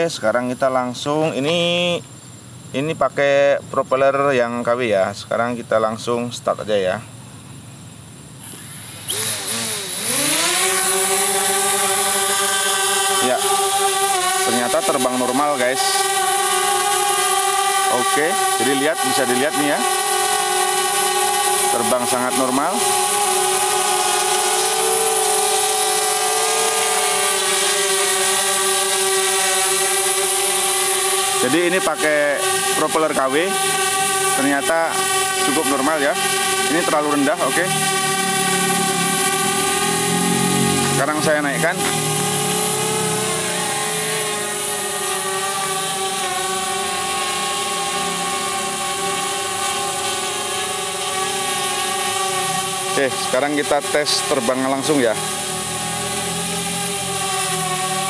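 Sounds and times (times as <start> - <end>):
drone hovering with buzzing whine: 0.0 - 58.0.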